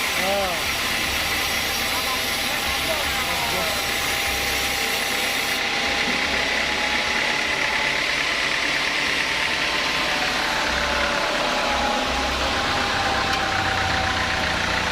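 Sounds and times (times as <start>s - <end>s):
sawmill machinery running: 0.0s - 14.9s.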